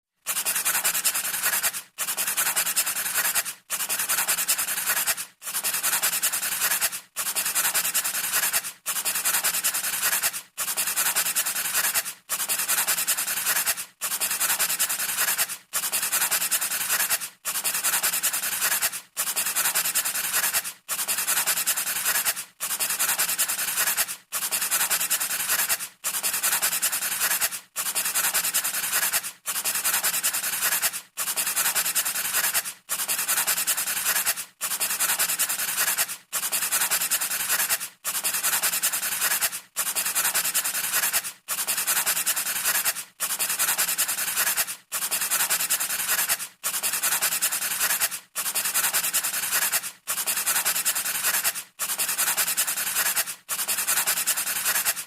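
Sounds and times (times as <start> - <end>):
scratchy rubbing strokes: 0.3 - 55.0.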